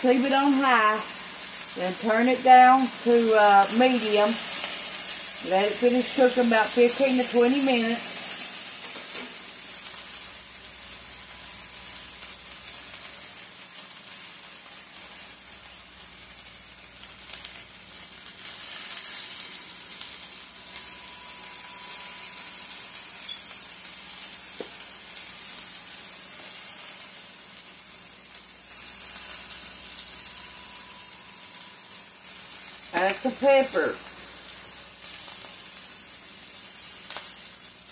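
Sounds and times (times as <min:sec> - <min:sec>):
potatoes sizzling in a skillet: 0:00.0 - 0:37.9.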